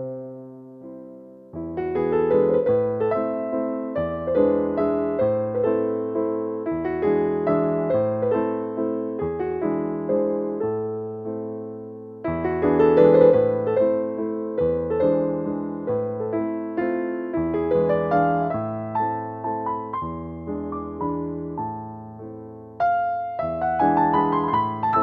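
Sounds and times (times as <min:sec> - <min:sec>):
soft piano music: 0:00.0 - 0:25.0.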